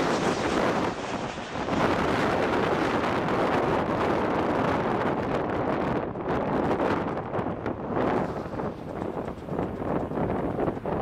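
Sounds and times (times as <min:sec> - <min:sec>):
jet airliner flying overhead: 0:00.0 - 0:11.0
wind buffeting microphone: 0:00.0 - 0:11.0.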